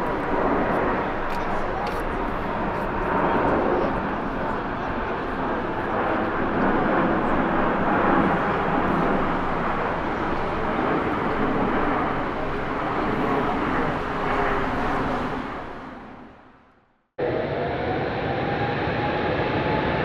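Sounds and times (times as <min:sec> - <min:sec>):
jet engines rushing: 0:00.0 - 0:16.6, 0:17.2 - 0:20.0.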